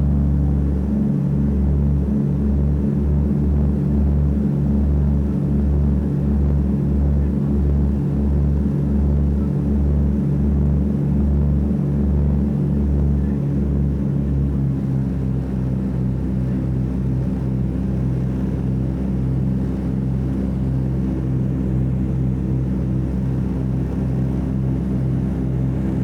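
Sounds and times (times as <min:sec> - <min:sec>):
propeller aircraft engines droning: 0:00.0 - 0:26.0.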